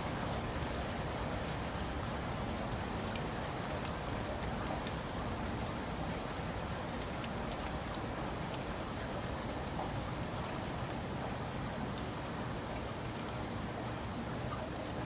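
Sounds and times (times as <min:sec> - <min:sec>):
raindrops ticking on a surface: 0:00.0 - 0:15.0
steady rain hiss: 0:00.0 - 0:15.0.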